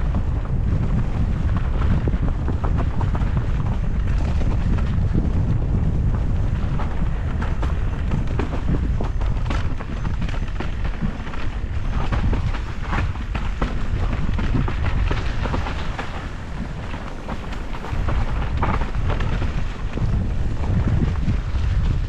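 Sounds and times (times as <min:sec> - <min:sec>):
bike clicks and rattles: 0:00.0 - 0:22.0
bike rolling on rough trail: 0:00.0 - 0:22.0
wind buffeting microphone: 0:00.0 - 0:22.0.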